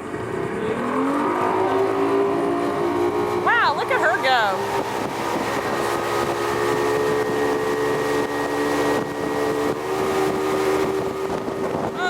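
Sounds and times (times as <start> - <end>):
motorboat engine running: 0.0 - 12.0
water rushing: 0.0 - 12.0
wind rushing: 0.0 - 12.0.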